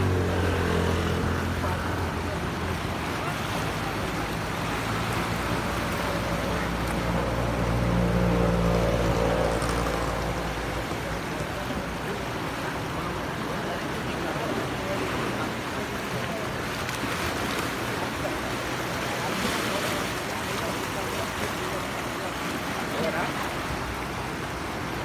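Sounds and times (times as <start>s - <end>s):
surf washing over rocks: 0.0s - 25.0s.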